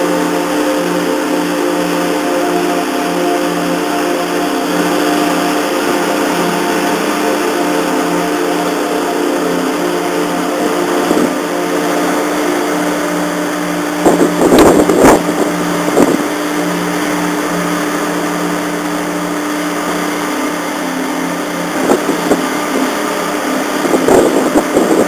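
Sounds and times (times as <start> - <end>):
ship engines droning: 0.0 - 25.0
loud rush of noise: 2.6 - 25.0.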